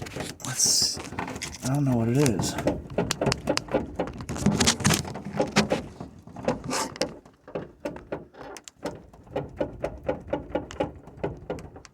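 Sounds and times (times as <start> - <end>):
van door creaking and knocking: 0.0 - 11.9.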